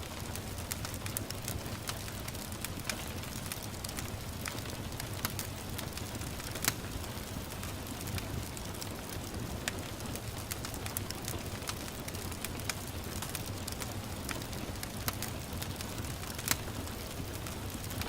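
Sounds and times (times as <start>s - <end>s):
gentle rain hiss: 0.0s - 18.0s
wood fire crackling: 0.0s - 18.0s.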